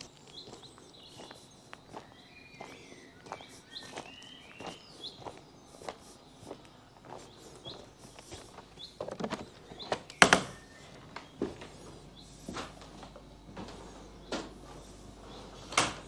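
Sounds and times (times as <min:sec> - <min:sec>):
bird chirps: 0:00.0 - 0:15.7
footsteps on ground: 0:00.0 - 0:15.7.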